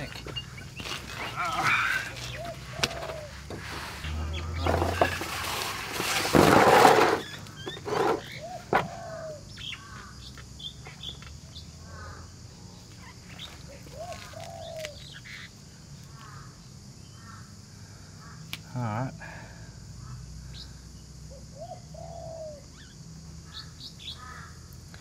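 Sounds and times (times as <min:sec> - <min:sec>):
birds chirping and calling: 0:00.0 - 0:19.4, 0:20.0 - 0:24.8.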